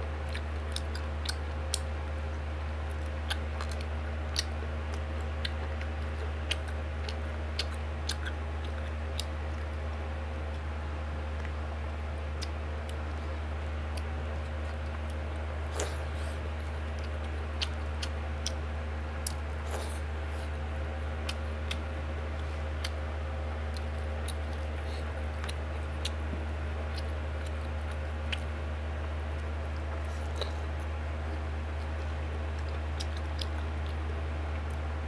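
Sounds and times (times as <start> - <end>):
steady low hum: 0.0 - 35.0
wet eating clicks and smacks: 0.2 - 9.9, 12.2 - 13.2, 13.9 - 34.9.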